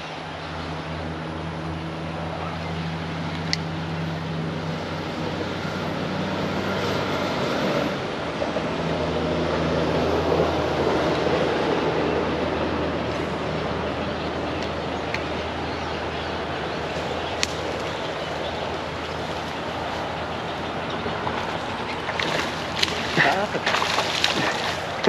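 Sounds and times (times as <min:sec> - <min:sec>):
low engine drone: 0:00.0 - 0:25.0.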